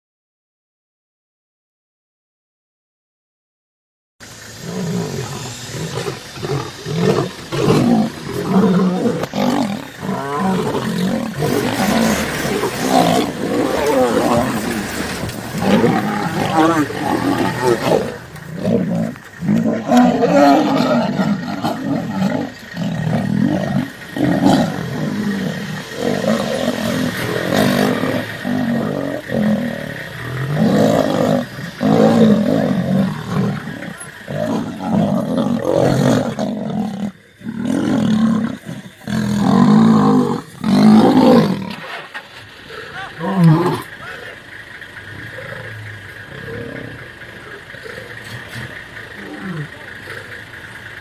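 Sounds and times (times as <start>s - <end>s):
lions roaring and snarling: 4.6s - 50.8s.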